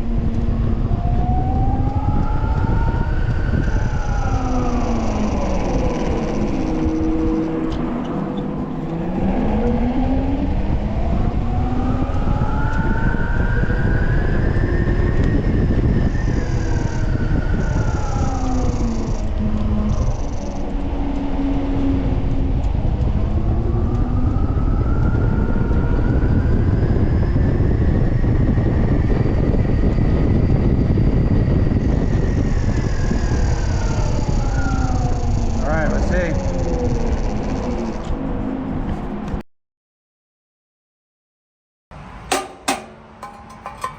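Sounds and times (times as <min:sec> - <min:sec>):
wind and road noise: 0:00.0 - 0:39.4.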